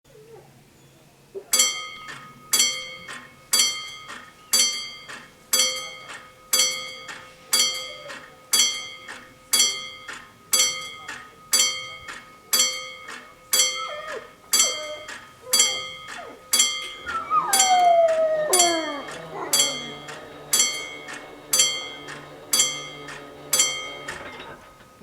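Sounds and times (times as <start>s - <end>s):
level crossing bells ringing: 1.5s - 25.0s.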